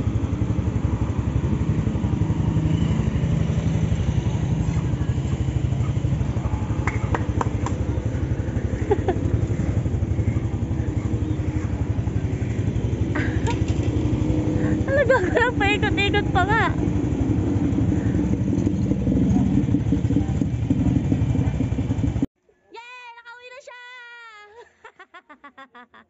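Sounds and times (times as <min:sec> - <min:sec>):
motorcycle engine idling: 0:00.0 - 0:22.3.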